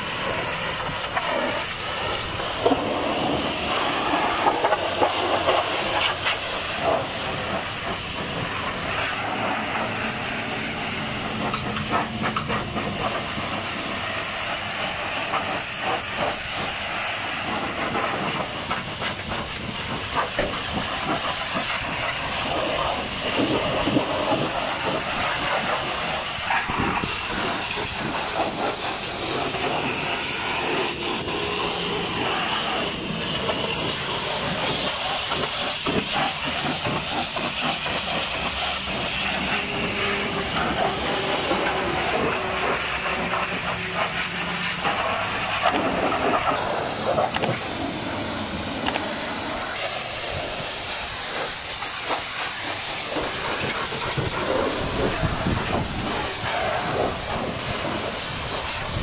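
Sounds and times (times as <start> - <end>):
pressure washer jet hissing: 0.0 - 59.0
water spattering on metal: 0.0 - 59.0.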